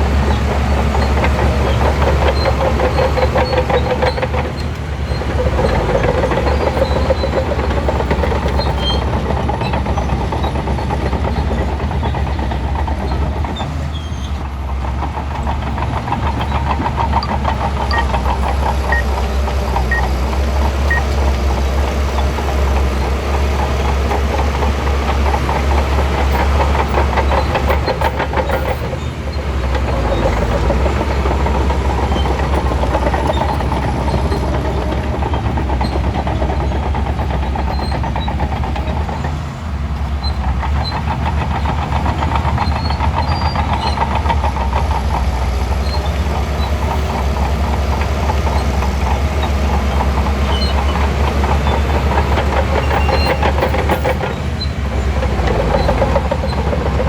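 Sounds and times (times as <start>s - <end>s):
bulldozer diesel engine: 0.0s - 57.0s
steel tracks clanking: 0.0s - 57.0s.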